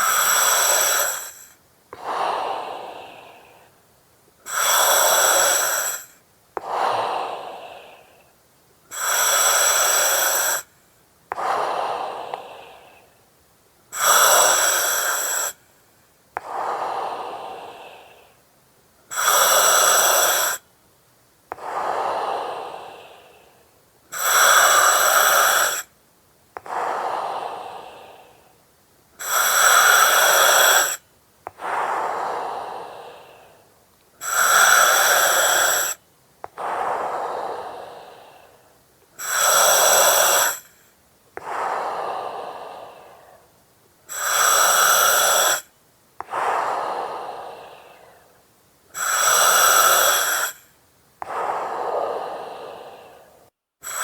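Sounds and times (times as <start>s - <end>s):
breathing through oxygen mask: 0.0s - 3.8s, 4.4s - 8.3s, 8.9s - 10.7s, 11.3s - 13.1s, 13.9s - 15.7s, 16.4s - 18.4s, 19.1s - 20.6s, 21.5s - 25.9s, 26.6s - 28.6s, 29.2s - 54.0s.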